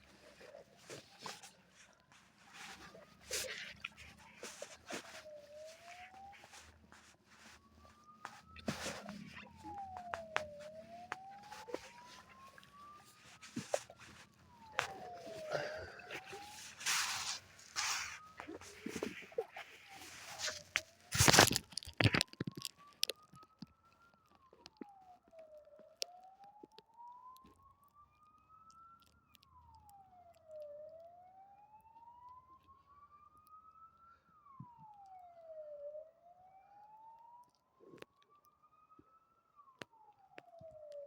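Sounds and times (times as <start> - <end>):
faint siren wailing: 0.0 - 41.0.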